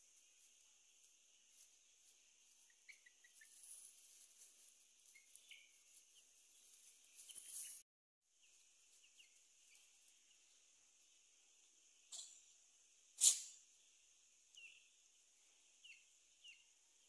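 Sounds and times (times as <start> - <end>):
chick peeping: 0.0 - 17.0.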